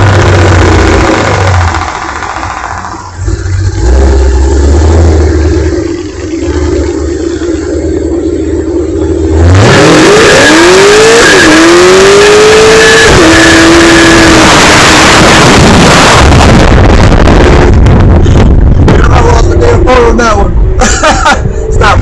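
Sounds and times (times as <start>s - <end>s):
car engine revving hard: 0.0s - 2.4s, 3.2s - 18.5s.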